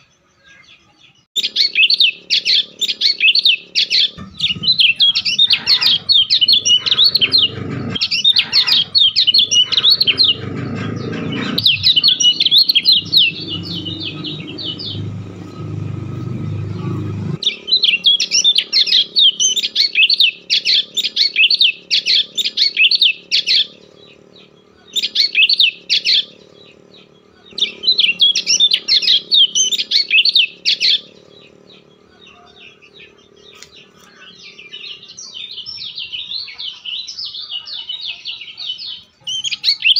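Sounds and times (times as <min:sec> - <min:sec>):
bird chirping: 0:00.0 - 0:39.9
low rumbling noise: 0:02.1 - 0:35.6.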